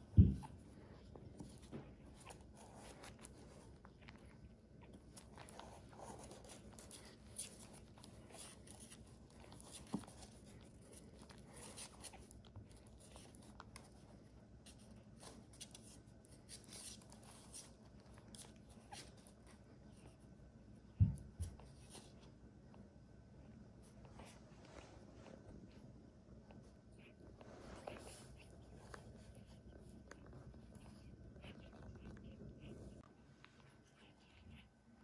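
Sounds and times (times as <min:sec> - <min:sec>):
soft rustling: 0:00.0 - 0:35.0.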